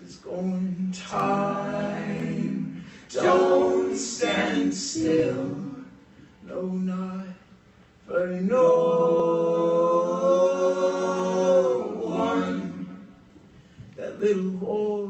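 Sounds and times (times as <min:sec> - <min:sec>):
voices singing in harmony: 0:00.0 - 0:06.9, 0:08.1 - 0:13.3.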